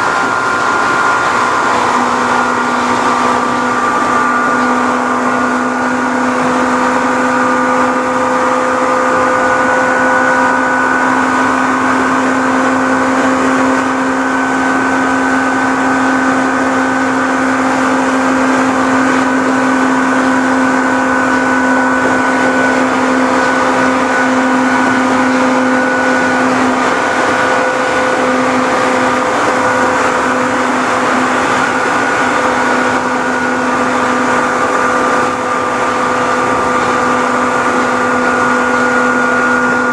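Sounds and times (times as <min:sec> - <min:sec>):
traction motors whining: 0:00.0 - 0:39.9
wheels rushing on rail: 0:00.0 - 0:39.9.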